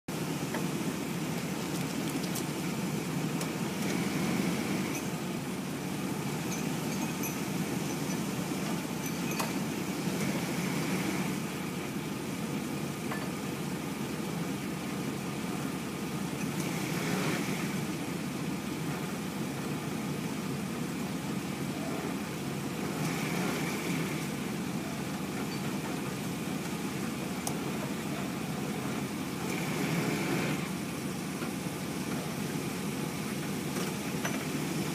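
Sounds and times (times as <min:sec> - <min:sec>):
vehicle engine idling: 0:00.1 - 0:34.9.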